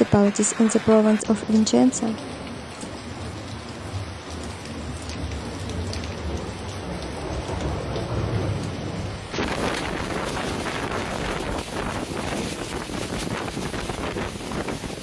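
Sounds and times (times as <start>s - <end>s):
heavy rain pouring: 0.0s - 15.0s
low thunder rumble: 2.2s - 15.0s.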